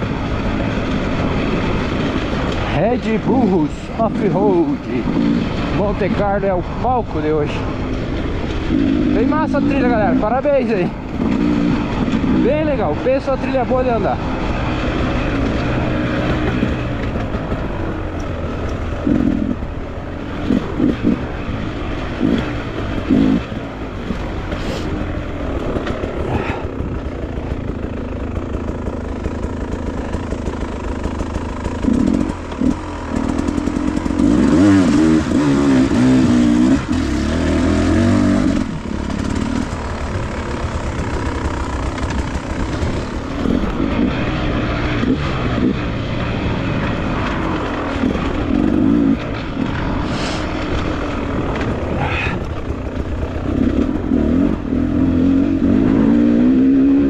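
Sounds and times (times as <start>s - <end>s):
dirt bike engine revving: 0.0s - 57.0s
dirt bike engine running: 0.0s - 57.0s
dirt bike throttle blips: 0.0s - 57.0s.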